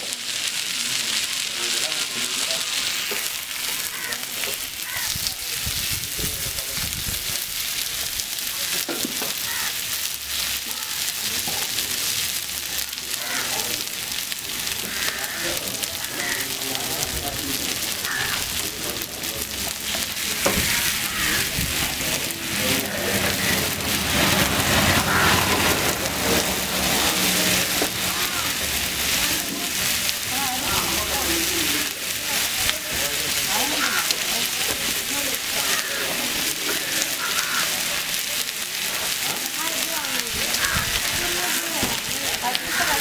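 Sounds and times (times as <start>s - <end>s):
fish frying in hot oil: 0.0s - 43.0s.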